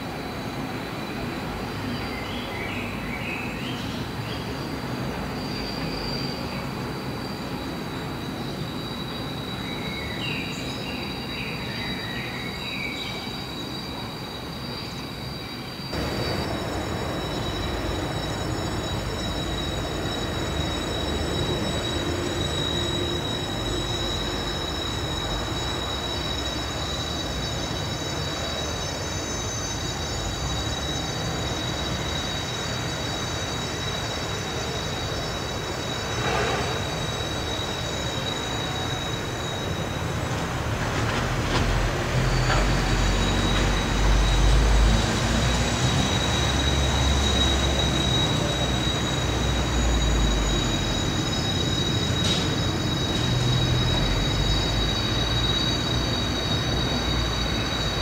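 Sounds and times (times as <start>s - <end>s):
low rolling rumble of train: 0.0s - 58.0s
train wheels squealing: 0.0s - 58.0s.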